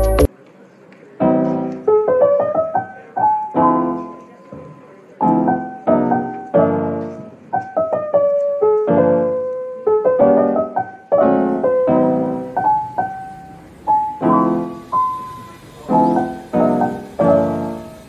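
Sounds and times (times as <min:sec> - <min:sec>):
soft piano music: 0:00.0 - 0:00.3, 0:01.1 - 0:18.0.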